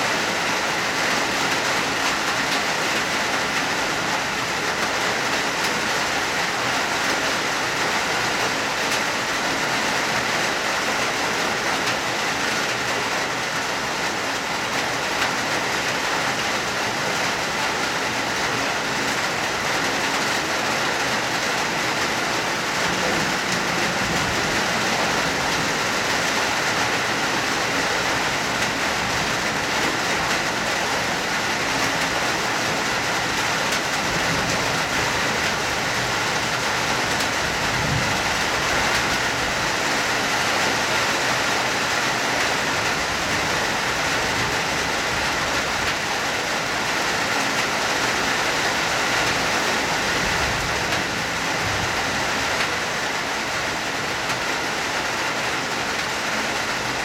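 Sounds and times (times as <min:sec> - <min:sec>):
hard rain falling: 0:00.0 - 0:57.0.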